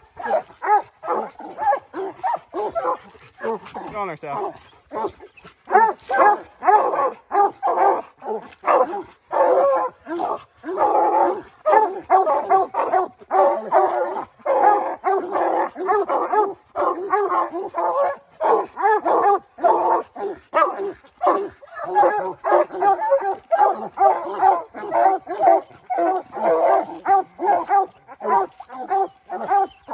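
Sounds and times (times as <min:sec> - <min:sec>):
hoarse dog bark: 0:00.0 - 0:29.9
hound bawling: 0:00.0 - 0:29.9
hounds barking: 0:00.0 - 0:29.9.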